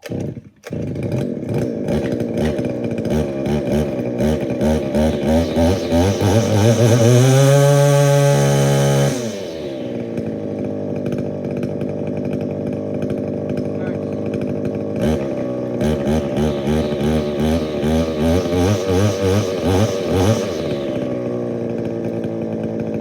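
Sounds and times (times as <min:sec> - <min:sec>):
string trimmer engine revving: 0:00.0 - 0:23.0.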